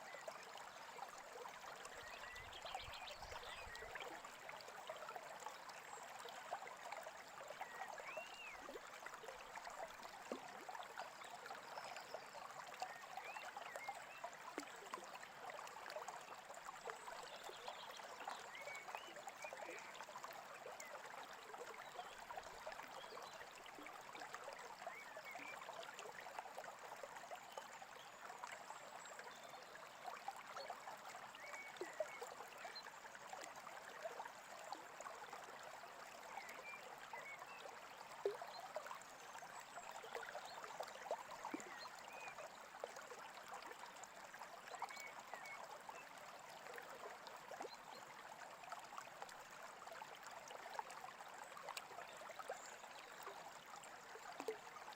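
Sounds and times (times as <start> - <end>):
brook babbling and trickling: 0.0 - 54.9.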